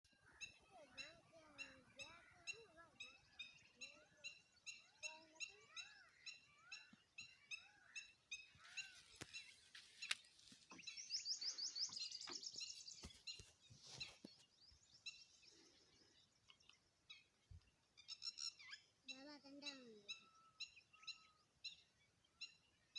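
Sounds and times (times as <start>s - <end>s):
warbled bird calls: 0.1s - 22.9s.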